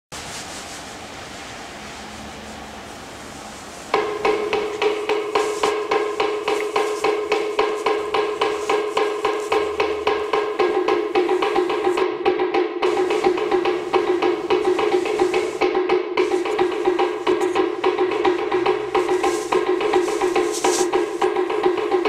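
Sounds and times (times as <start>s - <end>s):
steady hiss: 0.1s - 22.0s
wooden percussion beat: 3.3s - 22.0s.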